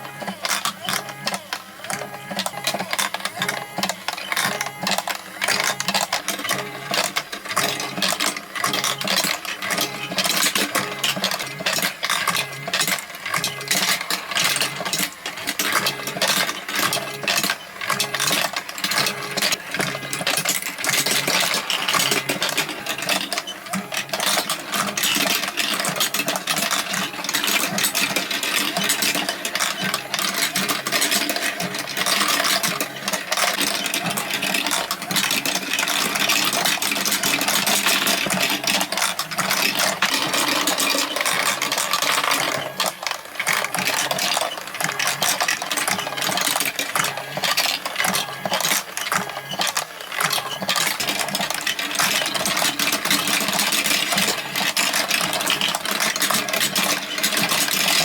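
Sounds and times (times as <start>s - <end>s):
marbles clattering on a marble run: 0.0s - 58.0s
steady mechanical hum: 0.0s - 58.0s.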